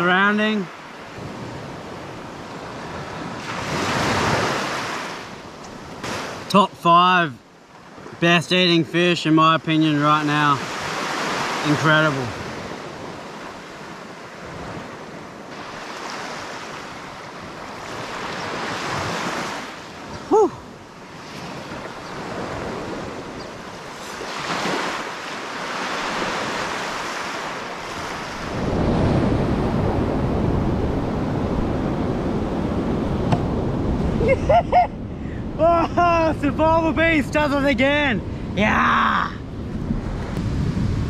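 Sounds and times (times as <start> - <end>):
waves washing onto a beach: 0.0 - 34.4
wind buffeting the microphone: 1.0 - 6.5, 12.2 - 41.0.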